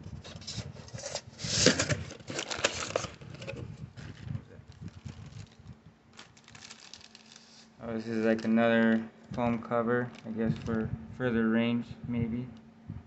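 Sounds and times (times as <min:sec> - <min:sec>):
cardboard and foam rustling: 0:00.2 - 0:10.8.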